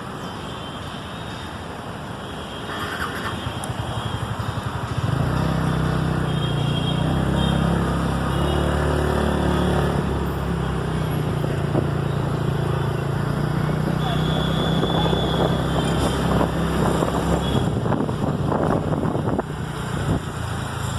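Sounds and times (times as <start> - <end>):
road traffic: 0.0 - 20.9.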